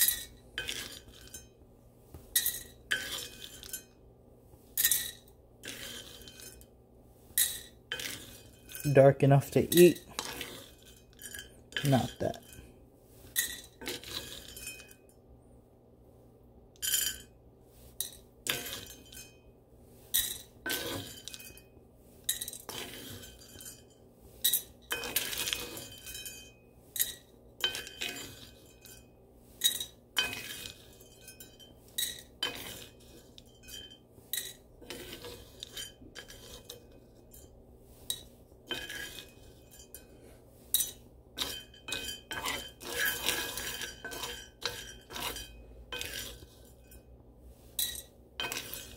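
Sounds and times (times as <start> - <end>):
coffee beans rattling in skillet: 0.0 - 1.6, 2.3 - 4.0, 4.8 - 6.7, 7.3 - 15.1, 17.9 - 19.4, 20.0 - 48.9
spatula scraping pan: 0.0 - 1.6, 2.2 - 4.0, 4.6 - 15.1, 17.7 - 48.9.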